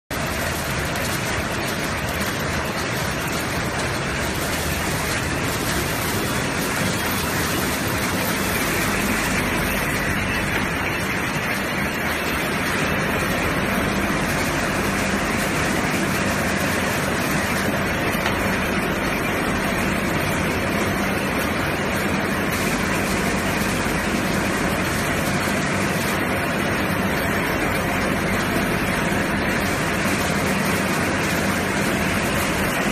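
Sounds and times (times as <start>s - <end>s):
wrapping machine running: 0.1s - 32.9s.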